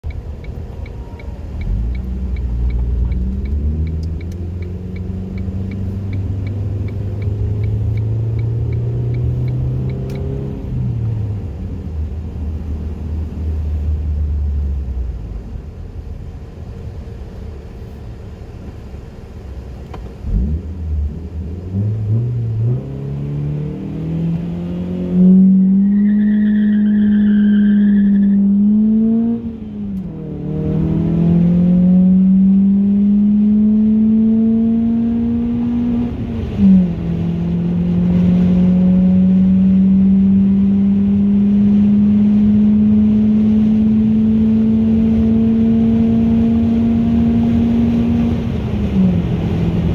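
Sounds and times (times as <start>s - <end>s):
car engine revving: 0.0s - 17.2s, 19.6s - 49.9s.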